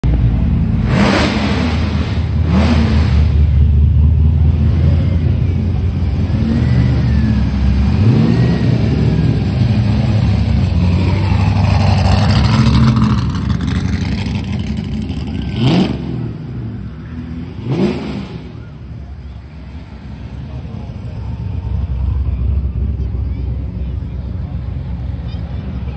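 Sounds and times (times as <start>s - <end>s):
car engines rumbling and revving: 0.0s - 25.9s.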